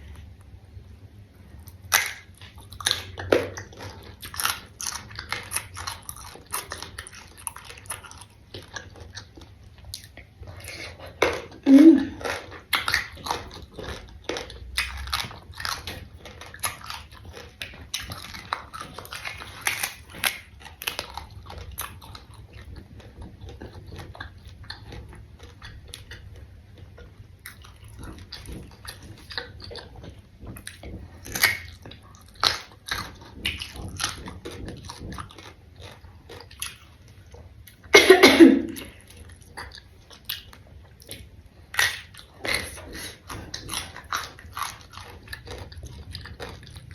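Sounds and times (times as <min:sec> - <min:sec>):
crisp crunching chewing: 0:01.4 - 0:38.0, 0:38.6 - 0:46.9.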